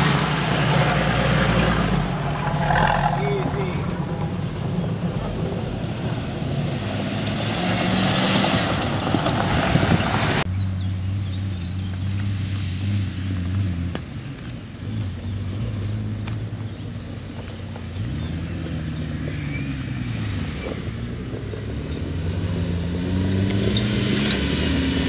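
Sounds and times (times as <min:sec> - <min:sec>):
off-road engines running: 0:00.0 - 0:25.0.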